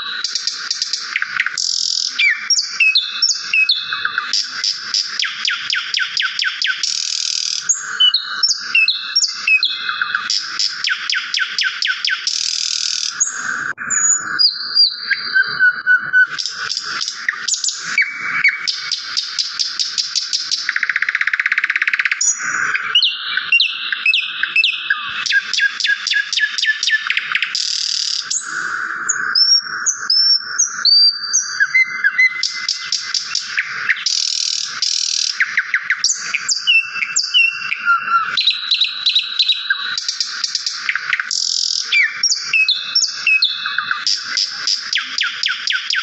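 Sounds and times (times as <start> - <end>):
small songbirds chirping: 0.0 - 46.0.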